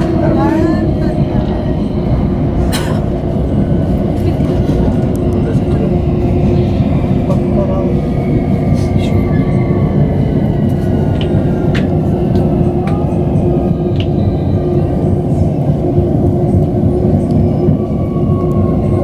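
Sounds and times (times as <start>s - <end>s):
train hum: 0.0s - 19.0s
train wheels rumbling on rails: 0.0s - 19.0s.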